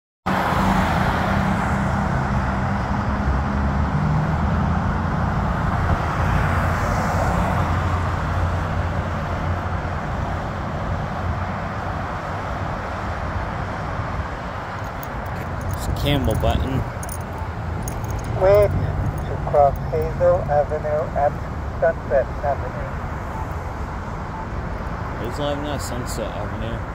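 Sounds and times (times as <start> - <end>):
cars passing: 0.3 - 26.9
engine rumble and tyre noise: 0.3 - 26.9.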